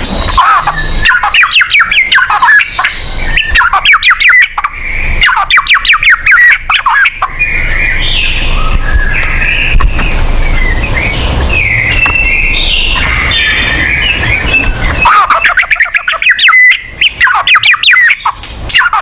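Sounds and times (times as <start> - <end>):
bird singing whistled notes: 0.0 - 18.9
buzzy bird phrase: 0.0 - 19.0.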